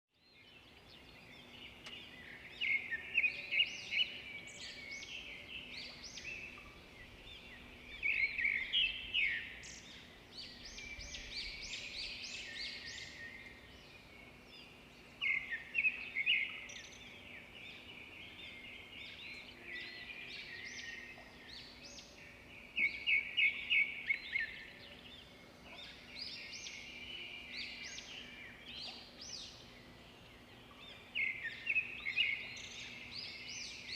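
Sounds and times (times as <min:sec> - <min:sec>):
birds chirping: 0:00.3 - 0:33.9.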